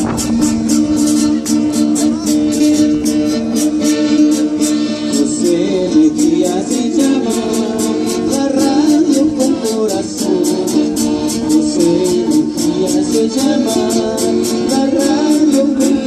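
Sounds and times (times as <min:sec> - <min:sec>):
held chords: 0:00.0 - 0:16.0.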